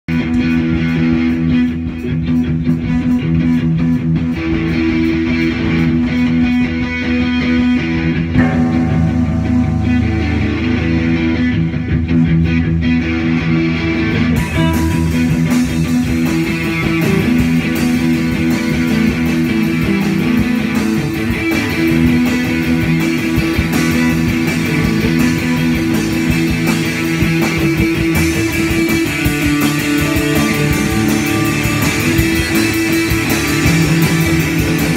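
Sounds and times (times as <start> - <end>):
drum kit: 0.1 - 34.9
electric guitars playing loud: 0.1 - 34.9.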